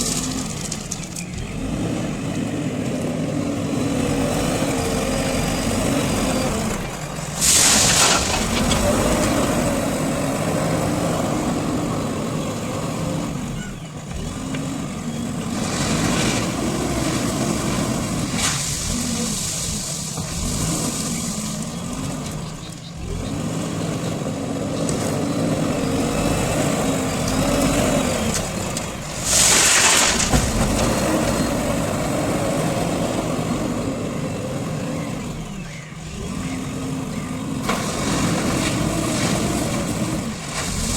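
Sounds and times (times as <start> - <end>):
diesel engine under load: 0.0 - 40.9.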